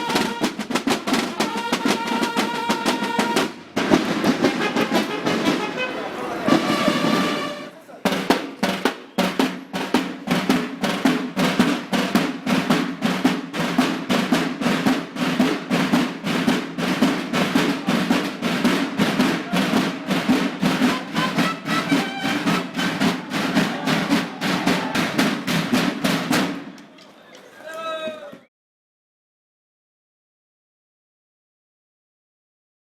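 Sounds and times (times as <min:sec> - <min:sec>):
snare drums march cadence: 0:00.0 - 0:28.5.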